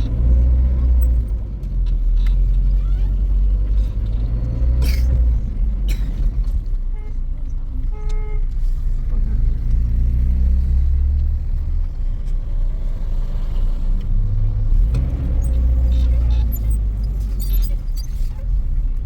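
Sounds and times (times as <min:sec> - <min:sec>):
engine running rumble: 0:00.0 - 0:19.0.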